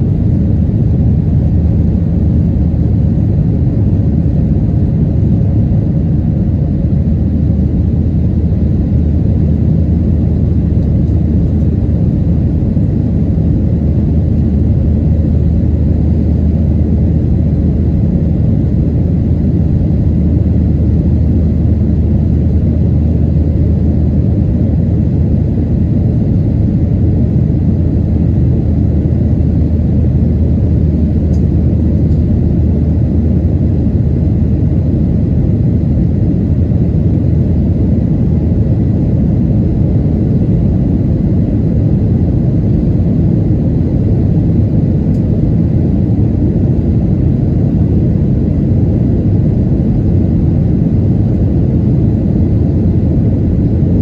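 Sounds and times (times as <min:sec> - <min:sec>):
airplane cabin engine noise: 0:00.0 - 0:54.0
constant low hum: 0:00.0 - 0:54.0.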